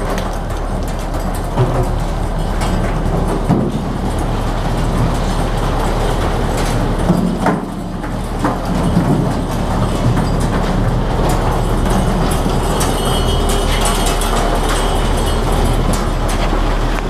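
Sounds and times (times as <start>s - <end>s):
diesel boat engine running: 0.0s - 17.0s.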